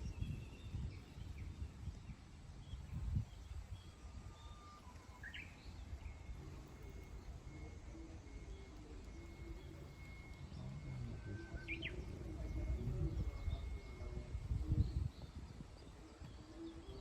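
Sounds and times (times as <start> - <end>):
bird chirp: 0.0 - 17.0.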